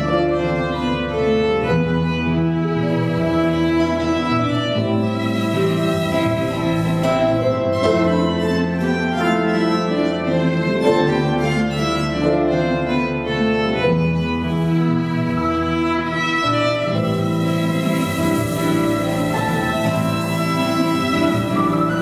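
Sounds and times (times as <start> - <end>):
double bass: 0.0 - 22.0
piano: 0.0 - 22.0
violin slow melody: 0.0 - 22.0.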